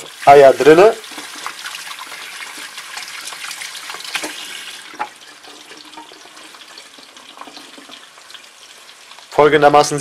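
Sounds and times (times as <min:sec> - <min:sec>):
eggs and bacon sizzling: 0:00.0 - 0:10.0.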